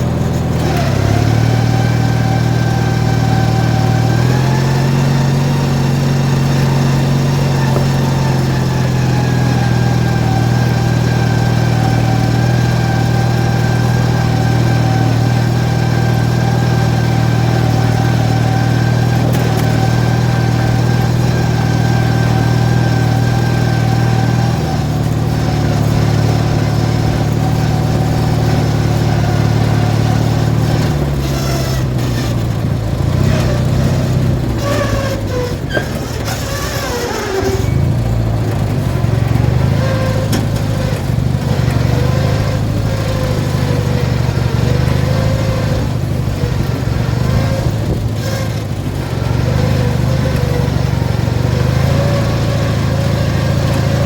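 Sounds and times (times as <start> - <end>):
lawn tractor engine running: 0.0 - 54.0
rattling: 0.0 - 54.0.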